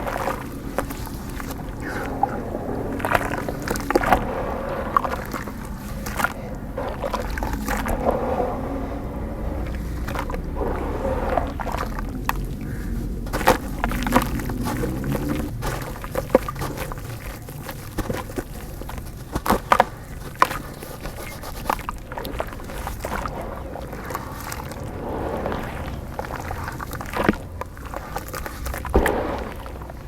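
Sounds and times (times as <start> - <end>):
dirt crumbling into water: 0.0 - 30.0
low water wash: 0.0 - 30.0
sharp cracks and plops: 0.0 - 30.0.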